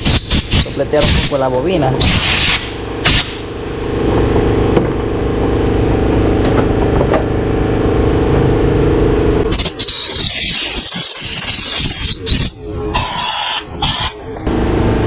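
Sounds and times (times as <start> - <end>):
air compressor motor humming: 0.0 - 10.2, 11.7 - 15.0.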